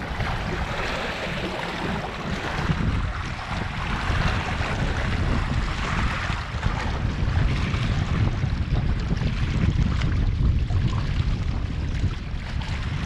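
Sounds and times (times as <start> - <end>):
small waves lapping on rocks: 0.0 - 13.0
wind buffeting microphone: 0.0 - 13.0.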